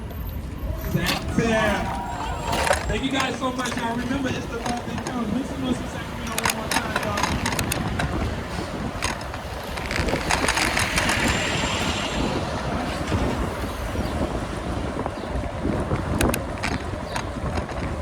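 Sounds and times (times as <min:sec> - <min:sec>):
wind buffeting microphone: 0:00.0 - 0:18.0
bicycle clicks and rattles: 0:00.2 - 0:18.0.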